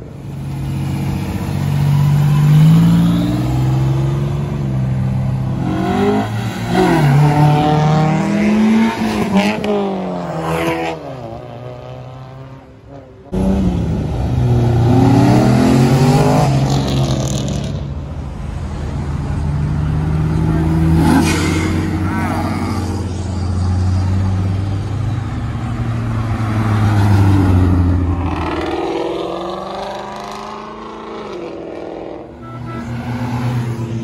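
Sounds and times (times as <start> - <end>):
cars accelerating away: 0.3 - 12.6, 13.3 - 17.8, 19.2 - 34.0.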